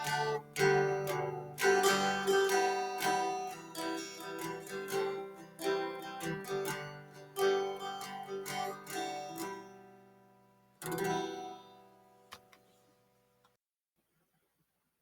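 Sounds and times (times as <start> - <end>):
plucked and strummed guitar music: 0.0 - 12.5.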